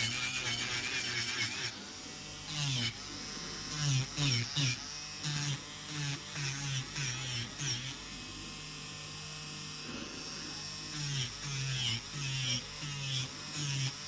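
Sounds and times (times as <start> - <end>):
electric nail drill humming: 0.0 - 14.0.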